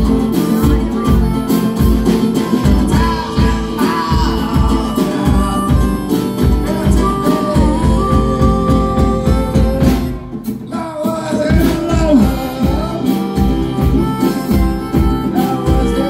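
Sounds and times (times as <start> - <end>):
acoustic guitar: 0.0 - 16.0
drum kit beat: 0.0 - 16.0.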